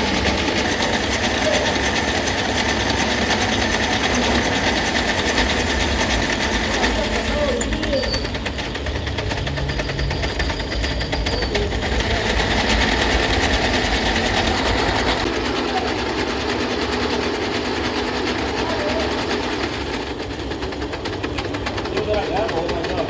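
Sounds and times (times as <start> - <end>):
factory machinery rattling: 0.0 - 23.0.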